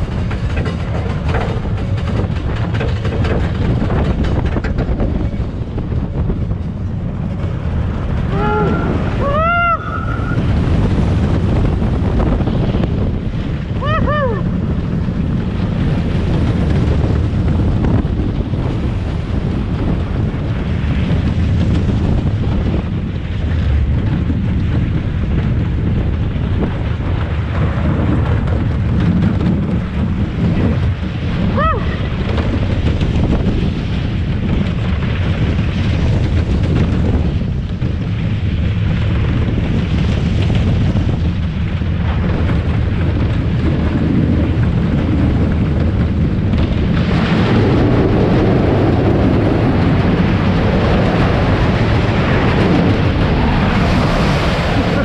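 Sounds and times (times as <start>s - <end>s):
roller coaster rumbling on wooden track: 0.0s - 55.0s
wind buffeting microphone: 0.0s - 55.0s.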